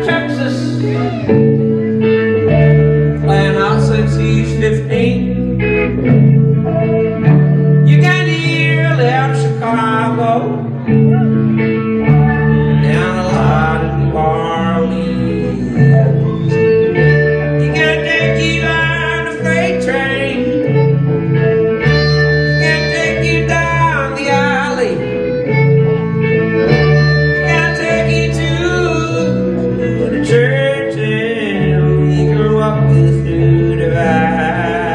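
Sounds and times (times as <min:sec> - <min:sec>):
bass line: 0:00.0 - 0:34.9
guitar lead with bending notes: 0:00.0 - 0:34.9.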